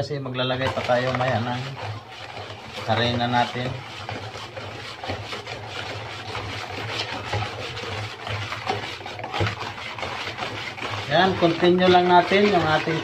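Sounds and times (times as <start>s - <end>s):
whisk scraping plastic bowl: 0.0s - 13.0s.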